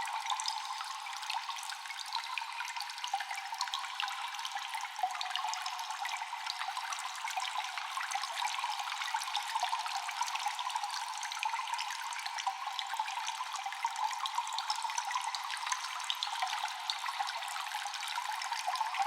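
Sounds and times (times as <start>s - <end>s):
water trickling: 0.1s - 19.0s.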